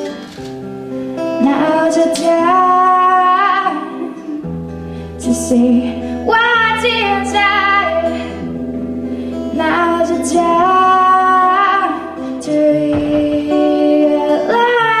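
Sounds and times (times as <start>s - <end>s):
woman singing: 0.0s - 0.3s, 1.2s - 4.5s, 5.2s - 8.5s, 9.4s - 15.0s
acoustic guitar: 0.0s - 15.0s.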